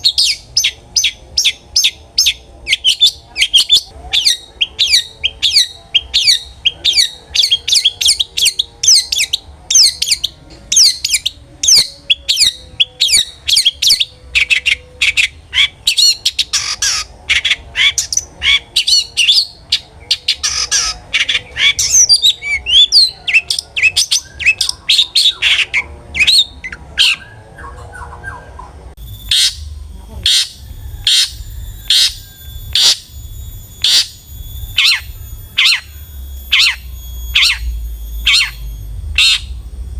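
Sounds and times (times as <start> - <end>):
harsh bird calls: 0.0 - 39.7
shrike singing: 0.0 - 39.9.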